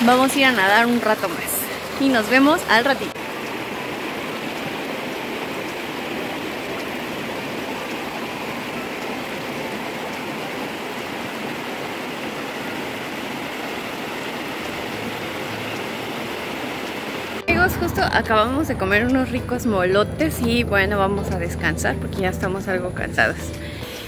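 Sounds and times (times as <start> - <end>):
river water rushing over rocks: 0.0 - 22.4.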